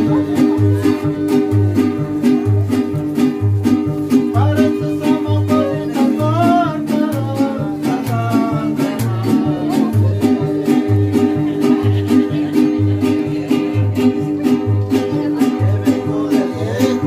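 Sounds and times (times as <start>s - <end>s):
person singing: 0.0s - 17.0s
plucked bass guitar notes: 0.0s - 17.0s
strummed guitars: 0.0s - 17.0s.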